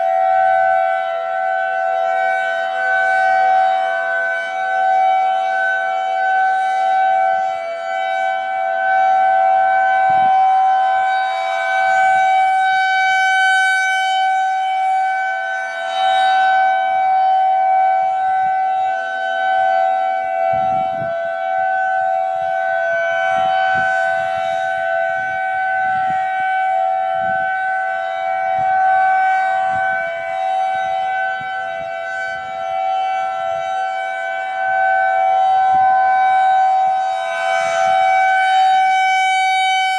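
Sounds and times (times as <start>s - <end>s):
civil defense siren steady tone: 0.0s - 39.9s.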